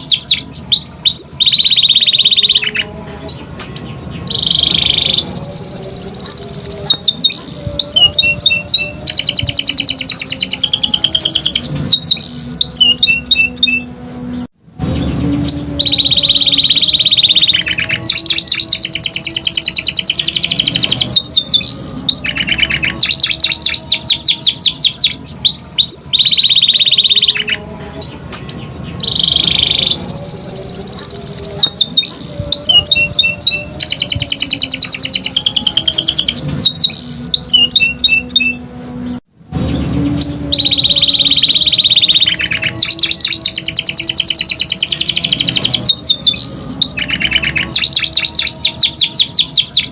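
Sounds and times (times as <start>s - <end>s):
canary singing trills: 0.0s - 39.2s, 40.1s - 49.9s.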